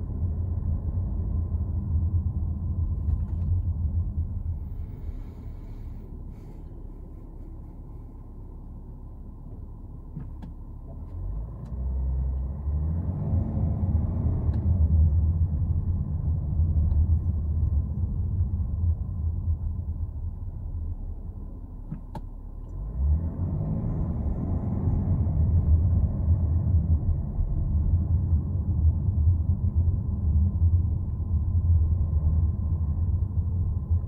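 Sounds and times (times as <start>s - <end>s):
diesel engine accelerating: 0.0s - 34.0s.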